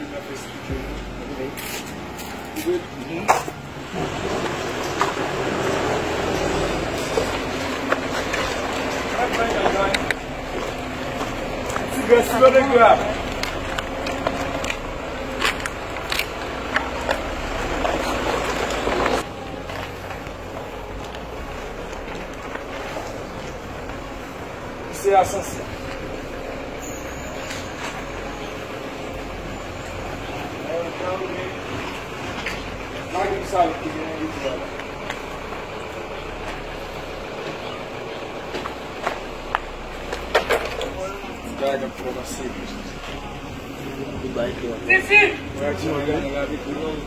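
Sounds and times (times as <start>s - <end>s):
outdoor street ambience: 0.0s - 47.0s
passing motor vehicles: 0.0s - 47.0s.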